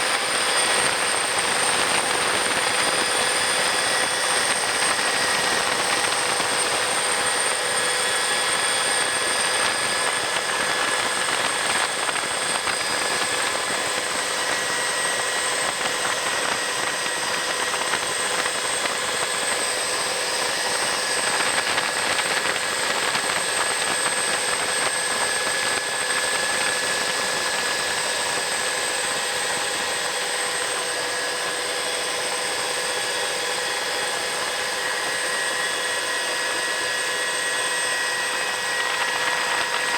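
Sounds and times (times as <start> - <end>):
helicopter engines and rotor running: 0.0 - 39.9
high turbine whine: 0.0 - 39.9.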